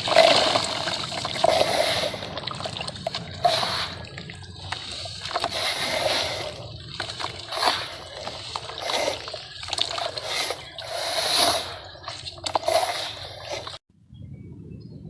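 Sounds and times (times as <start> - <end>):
grit trickling: 0.0 - 13.8
sand-cement lumps crumbling: 0.0 - 13.8.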